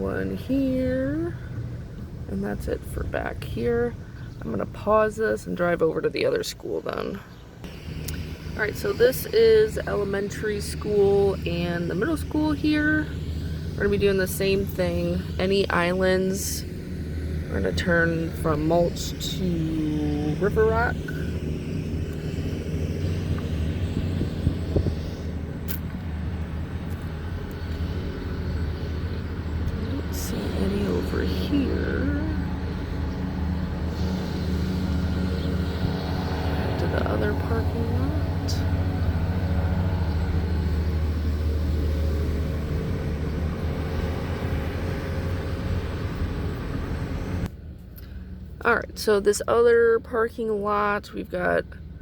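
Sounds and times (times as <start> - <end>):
engine drone: 0.0 - 52.0
low rumble of vehicle driving: 0.0 - 52.0
road noise: 0.0 - 52.0.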